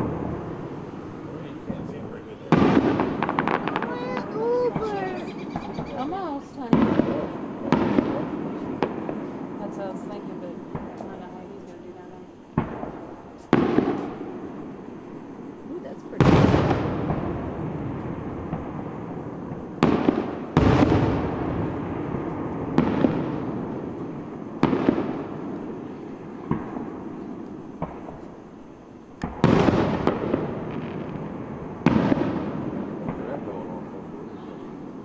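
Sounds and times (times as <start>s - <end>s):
fireworks booming with echo: 0.0s - 35.0s.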